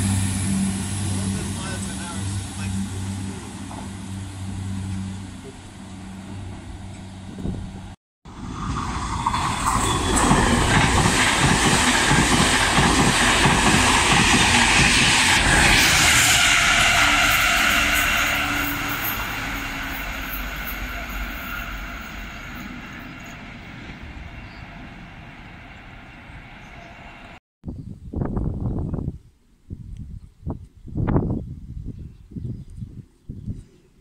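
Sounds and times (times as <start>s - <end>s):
train wheels rumbling on rail: 0.0s - 27.4s.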